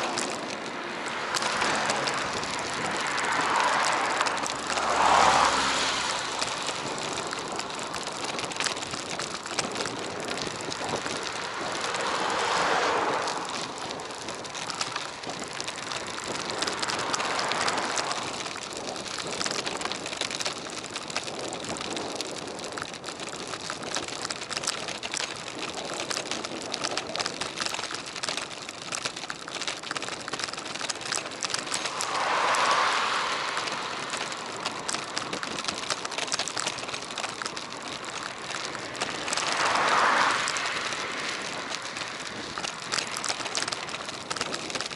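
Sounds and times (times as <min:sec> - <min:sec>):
small clicks: 0:00.0 - 0:44.9
wind and tyre noise: 0:00.0 - 0:44.9.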